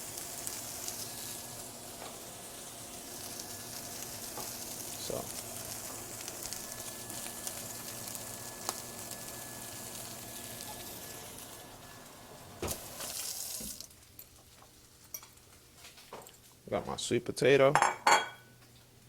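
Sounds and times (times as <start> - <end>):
bacon sizzling in a frying pan: 0.0 - 16.0.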